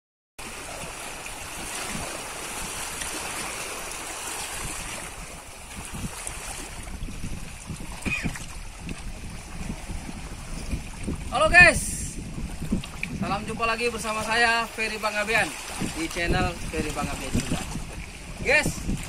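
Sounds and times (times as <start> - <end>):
waves lapping on rocky shore: 0.4 - 19.0
wind on microphone: 0.4 - 19.0.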